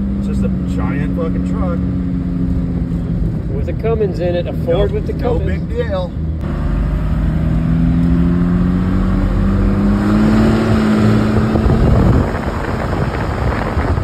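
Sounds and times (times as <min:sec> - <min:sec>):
diesel engine accelerating: 0:00.0 - 0:14.0
wind and road noise: 0:00.0 - 0:14.0.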